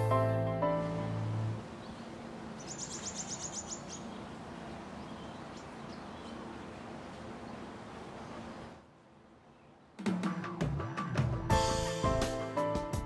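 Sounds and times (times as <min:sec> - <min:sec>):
steady background hiss: 0:00.0 - 0:10.5.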